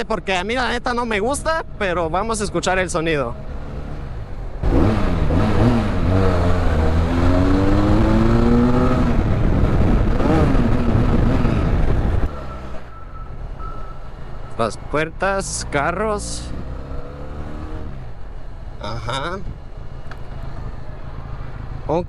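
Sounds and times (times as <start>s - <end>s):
motorcycle engine accelerating: 2.7s - 22.0s.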